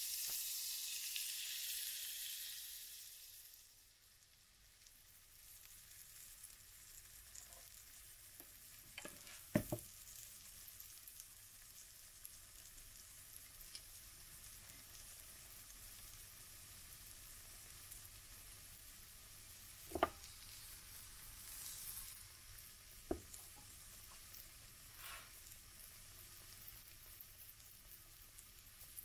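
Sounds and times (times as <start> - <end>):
batter sizzling in a pan: 0.0 - 29.0.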